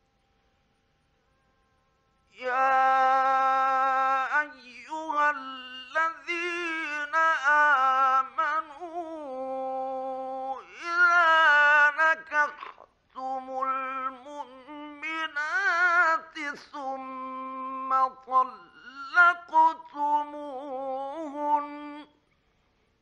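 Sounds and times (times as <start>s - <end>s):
man chanting recitation: 2.4s - 22.1s.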